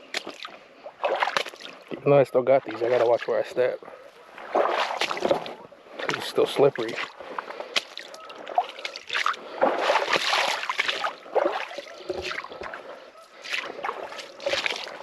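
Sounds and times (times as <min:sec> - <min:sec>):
boots wading through water: 0:00.0 - 0:15.0.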